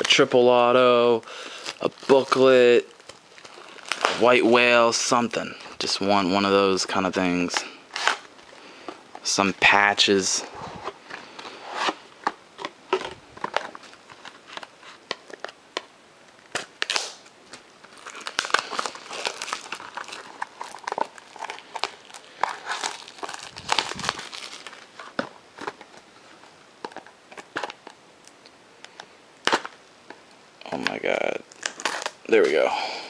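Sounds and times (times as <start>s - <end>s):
plastic wrapping crinkling and tearing: 1.4s - 5.7s, 7.0s - 28.0s, 29.4s - 30.2s, 30.8s - 32.7s.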